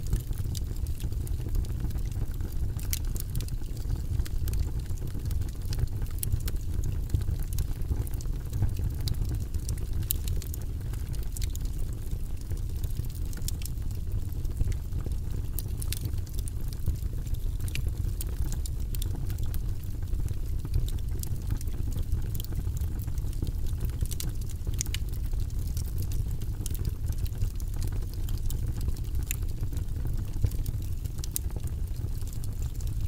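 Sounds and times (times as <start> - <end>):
fire rumbling: 0.0 - 33.0
wood crackling and popping: 0.0 - 33.0.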